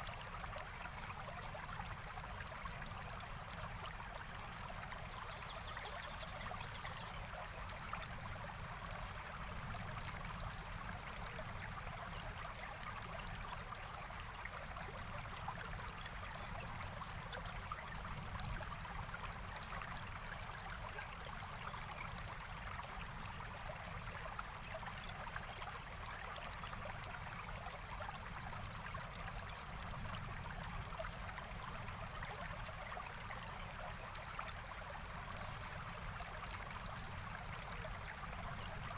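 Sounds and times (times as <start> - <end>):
forest stream flowing: 0.0 - 38.9.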